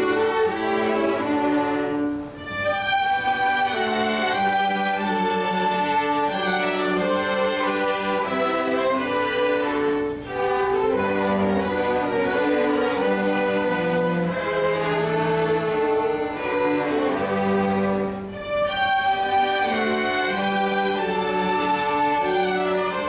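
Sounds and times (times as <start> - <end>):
string orchestra playing: 0.0 - 23.0.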